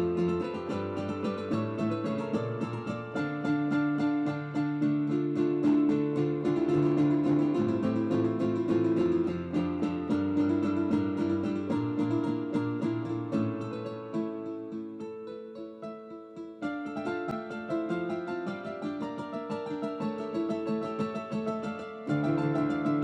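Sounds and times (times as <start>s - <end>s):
plucked strings and keyboard music: 0.0s - 23.0s.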